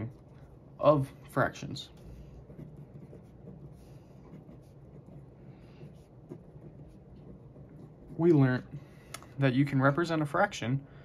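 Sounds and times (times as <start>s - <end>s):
pen scratching on paper: 0.0s - 9.0s
low steady hum: 0.0s - 11.0s.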